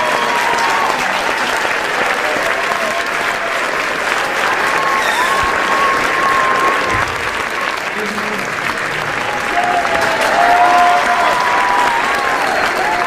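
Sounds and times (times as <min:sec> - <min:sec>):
audience applauding: 0:00.0 - 0:13.0
crowd cheering and shouting: 0:00.0 - 0:13.0.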